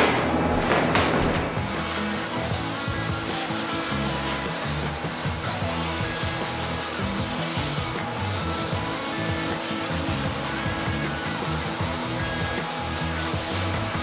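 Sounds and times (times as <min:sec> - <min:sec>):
sanding block scuffing paint: 0:00.0 - 0:14.0.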